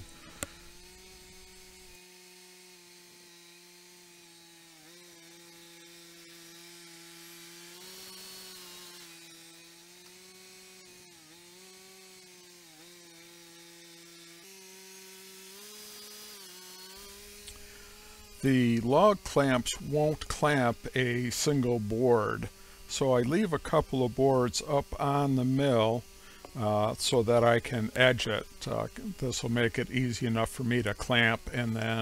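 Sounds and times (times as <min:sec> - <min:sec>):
sawmill engine running: 0:00.0 - 0:32.0.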